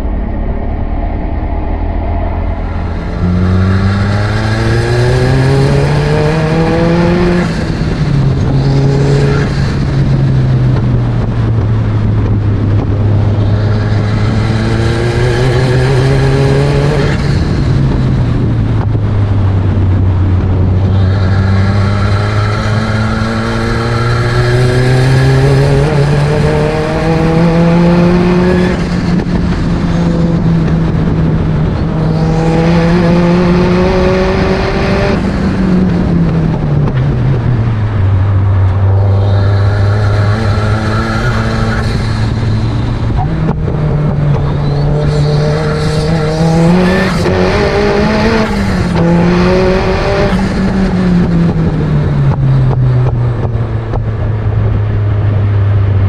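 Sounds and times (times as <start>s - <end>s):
car engine pulling hard: 0.0s - 56.0s
wind rush: 0.0s - 56.0s.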